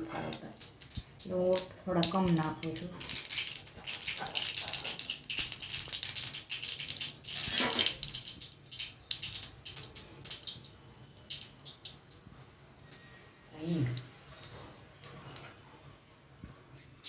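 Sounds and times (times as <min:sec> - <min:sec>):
seeds crackling in hot oil: 0:00.0 - 0:16.3.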